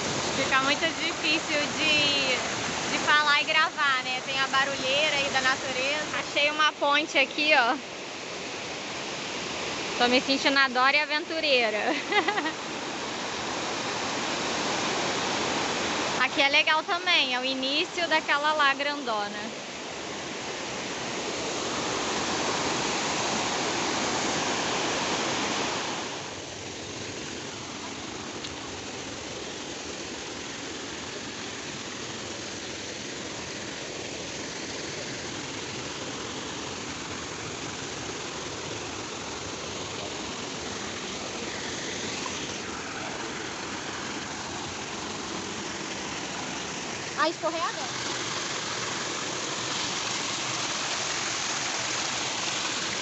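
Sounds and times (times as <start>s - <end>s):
waterfall cascading over rocks: 0.0s - 53.0s.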